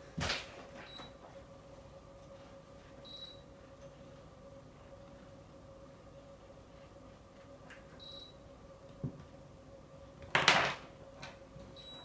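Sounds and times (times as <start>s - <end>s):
air purifier hum: 0.0s - 12.0s.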